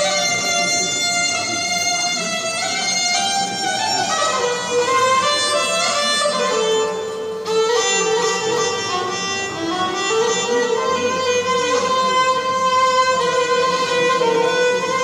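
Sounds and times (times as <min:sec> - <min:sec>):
oud: 0:00.0 - 0:15.0
violin melody: 0:00.0 - 0:15.0.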